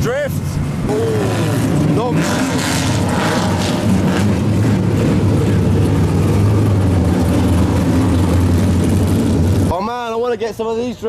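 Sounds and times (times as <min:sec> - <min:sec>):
car engines droning: 0:00.0 - 0:11.0.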